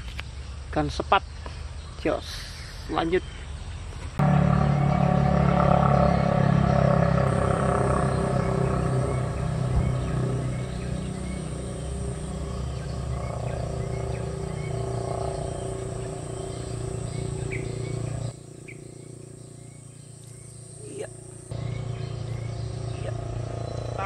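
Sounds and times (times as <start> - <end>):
high insect whine: 4.2 - 24.0
low steady hum: 4.2 - 24.0.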